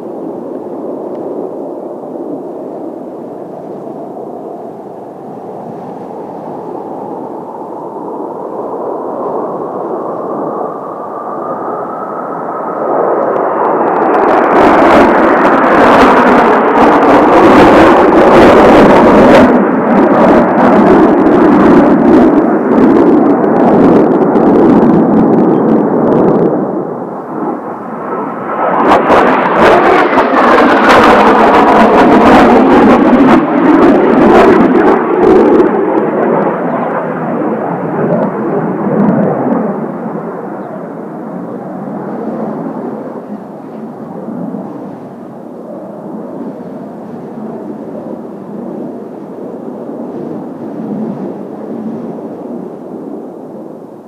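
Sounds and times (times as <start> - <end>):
jets passing overhead: 0.0 - 54.0.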